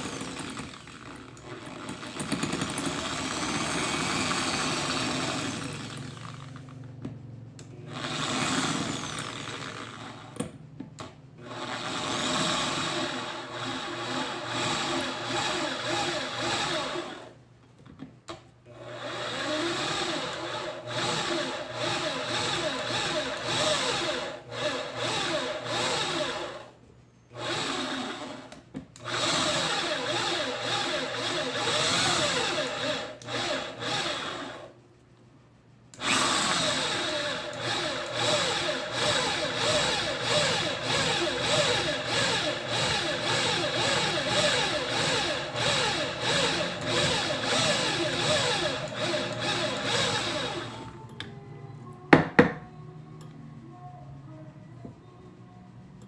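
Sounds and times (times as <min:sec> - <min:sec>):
electric drill motor running: 0:00.0 - 0:06.6, 0:07.9 - 0:10.4, 0:11.4 - 0:17.3, 0:18.7 - 0:26.7, 0:27.4 - 0:34.7, 0:36.0 - 0:51.0.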